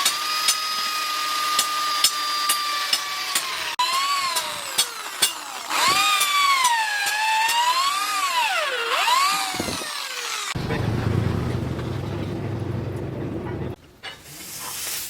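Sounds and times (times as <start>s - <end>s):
power tool motor whining: 0.0s - 12.1s.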